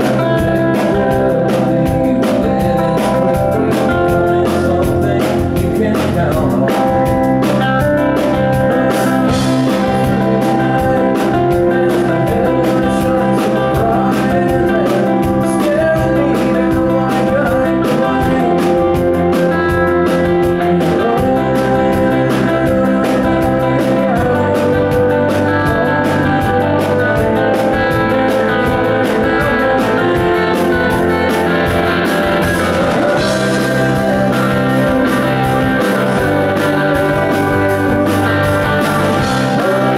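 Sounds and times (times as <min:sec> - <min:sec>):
bass: 0:00.0 - 0:39.9
drums: 0:00.0 - 0:39.9
electric guitars: 0:00.0 - 0:39.9.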